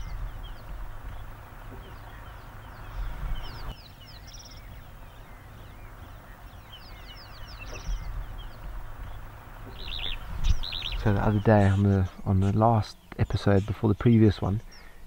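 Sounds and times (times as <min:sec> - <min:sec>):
low rumble and hiss: 0:00.0 - 0:14.8
birds chirping and whistling: 0:00.0 - 0:15.0.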